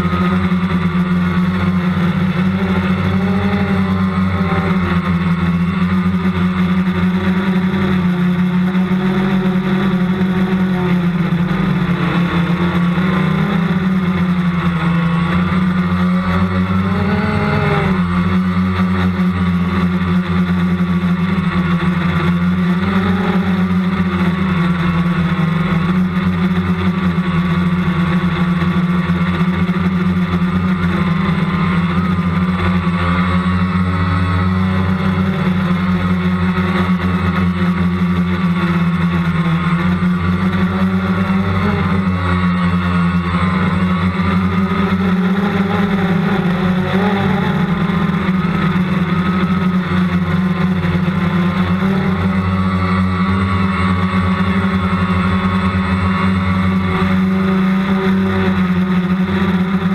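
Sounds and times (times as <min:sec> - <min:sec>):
drone propellers droning: 0:00.0 - 0:59.9.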